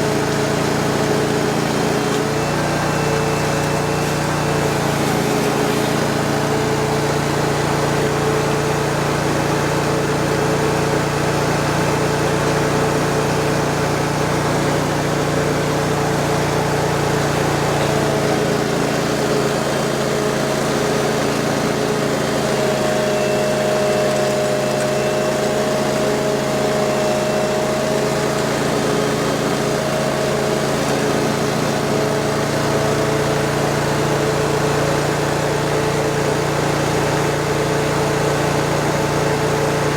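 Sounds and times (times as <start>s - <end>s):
vacuum excavator engine drone: 0.0s - 39.9s.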